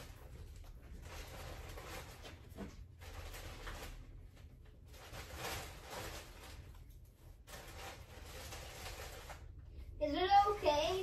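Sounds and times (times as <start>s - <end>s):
rustling and handling noises: 0.0s - 11.0s.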